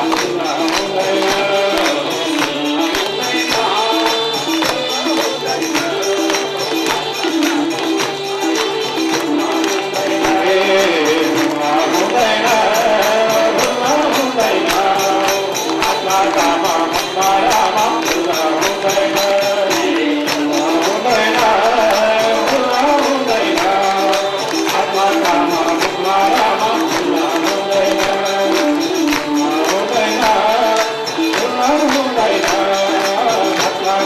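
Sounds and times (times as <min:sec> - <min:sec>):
jingling percussion beat: 0:00.0 - 0:34.0
person singing devotional song: 0:00.0 - 0:34.0.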